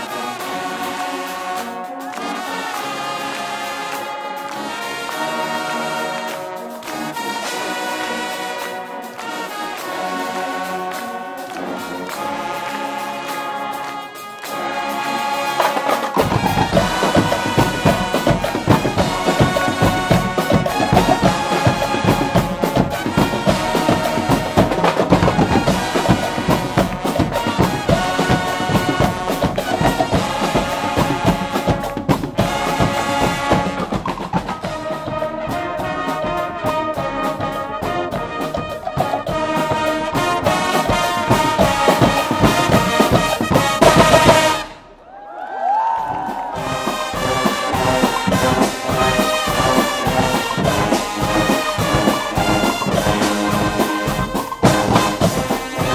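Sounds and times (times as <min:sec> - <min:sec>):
brass band carnival music: 0:00.0 - 0:45.1, 0:45.9 - 0:55.9
drum beat: 0:09.1 - 0:44.8, 0:46.0 - 0:55.9.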